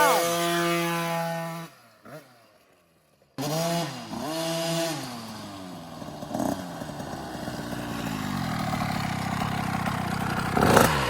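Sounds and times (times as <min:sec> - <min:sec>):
two-stroke dirt bike engine revving: 0:00.0 - 0:02.6, 0:03.4 - 0:11.0.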